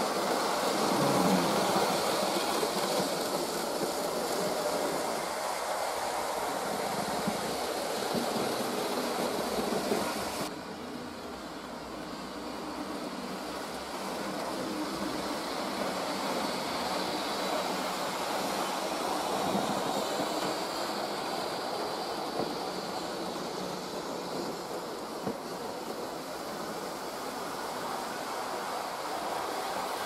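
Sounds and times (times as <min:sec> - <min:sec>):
model trains whirring on rails: 0:00.0 - 0:30.0.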